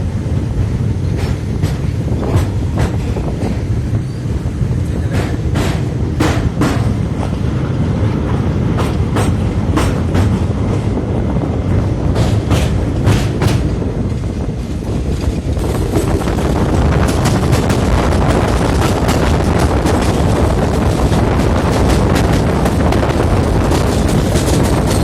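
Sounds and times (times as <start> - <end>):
train wheels rumbling on track: 0.0 - 25.0
wheels clacking over rail joints: 0.5 - 25.0.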